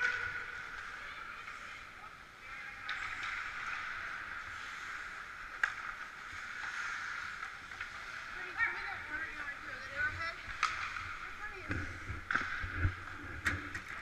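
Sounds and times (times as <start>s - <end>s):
hiss of play on ice: 0.0s - 13.0s.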